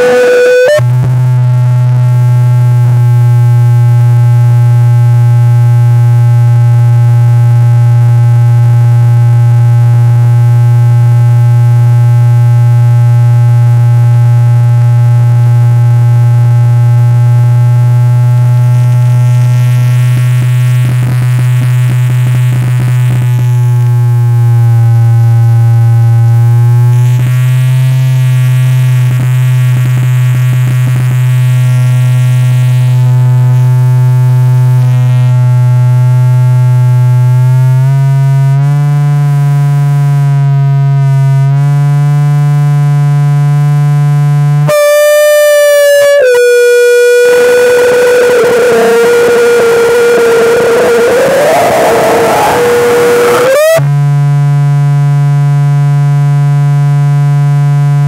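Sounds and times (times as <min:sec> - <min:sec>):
low synthesizer drone: 0:00.0 - 0:40.0, 0:44.6 - 0:57.0.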